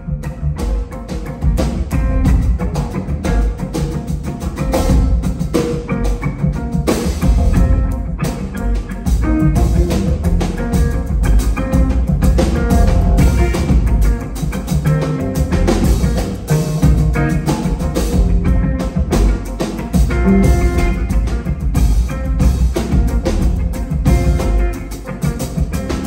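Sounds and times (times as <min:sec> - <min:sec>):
double bass: 0:00.0 - 0:26.0
drum kit: 0:00.0 - 0:26.0
guitar: 0:00.0 - 0:26.0.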